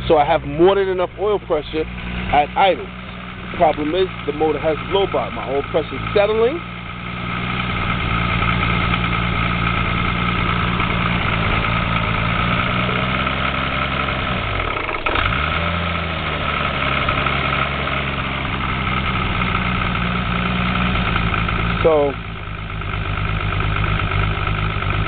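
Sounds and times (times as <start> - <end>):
car engine idling with knock: 0.0 - 25.0.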